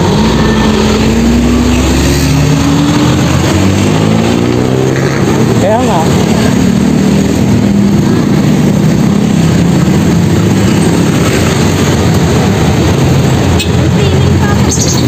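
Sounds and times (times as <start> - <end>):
surrounding traffic engines: 0.0 - 15.0.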